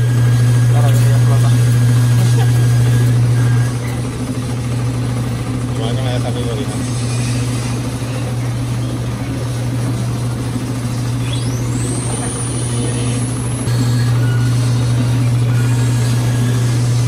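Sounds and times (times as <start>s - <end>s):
high whine: 0.0s - 17.0s
machine low hum: 0.0s - 17.0s.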